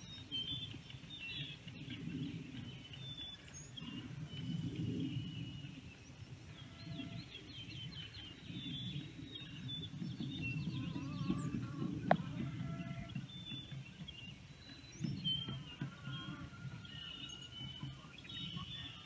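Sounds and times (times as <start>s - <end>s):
low uneven rumble: 0.0s - 19.0s
songbirds chirping: 0.0s - 19.0s.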